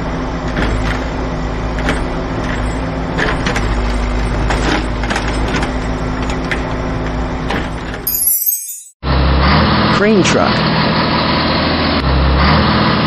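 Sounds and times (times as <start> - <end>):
road roller engine running: 0.0 - 8.0, 9.0 - 13.0.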